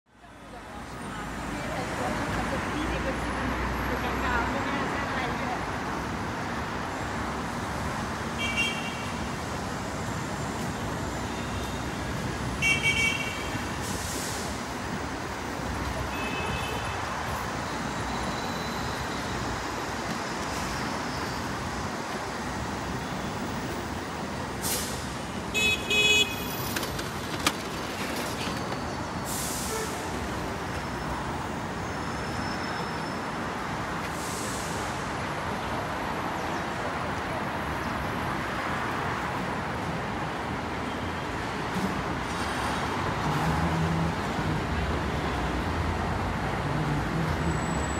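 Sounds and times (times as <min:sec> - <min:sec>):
city street traffic: 0:00.0 - 0:47.9.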